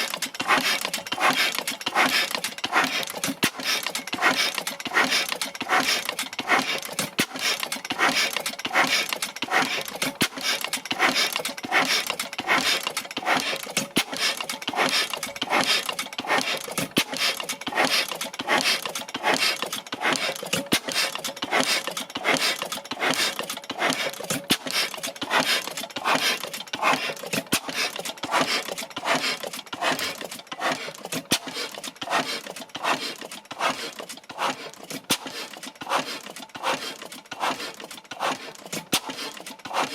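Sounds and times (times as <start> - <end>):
oil engine running steadily: 0.0 - 39.9
sharp clattering clicks: 0.0 - 39.9.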